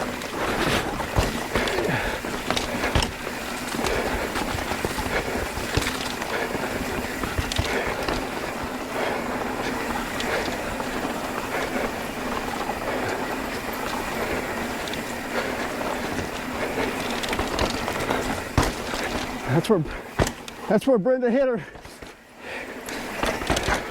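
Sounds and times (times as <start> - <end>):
person breathing heavily: 0.0 - 20.2, 21.6 - 23.9
bike rattle and tyre noise: 0.0 - 23.9.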